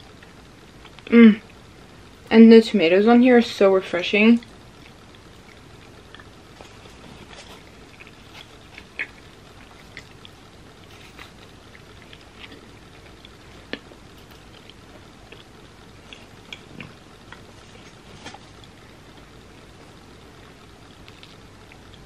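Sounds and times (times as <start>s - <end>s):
chewing crunchy crust: 0.0s - 1.6s, 4.4s - 22.0s.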